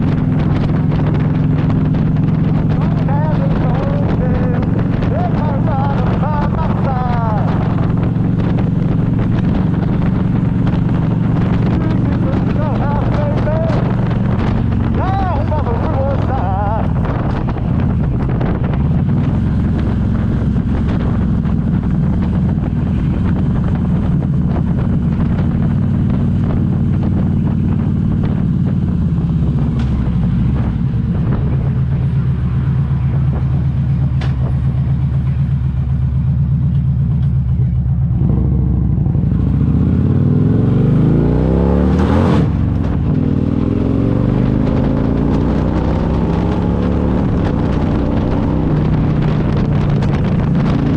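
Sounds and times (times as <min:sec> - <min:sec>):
car engine and drivetrain running: 0:00.0 - 0:50.9.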